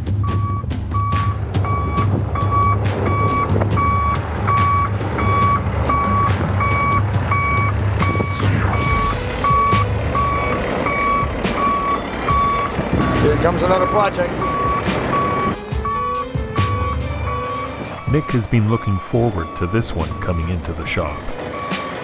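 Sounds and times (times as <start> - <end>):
truck engine running: 0.0 - 22.0
reversing alarm beeping: 0.2 - 22.0.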